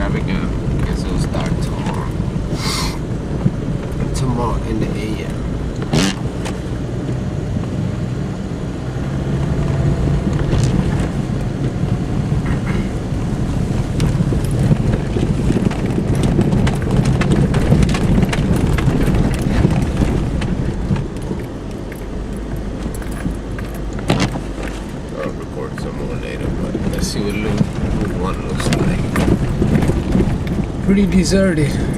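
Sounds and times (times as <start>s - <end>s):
car engine and road rumble: 0.0s - 31.9s.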